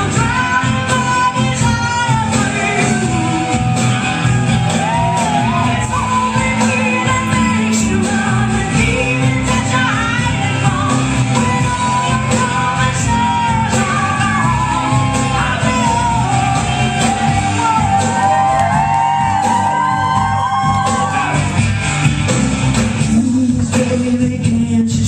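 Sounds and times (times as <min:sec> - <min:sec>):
steady bass line: 0:00.0 - 0:25.0.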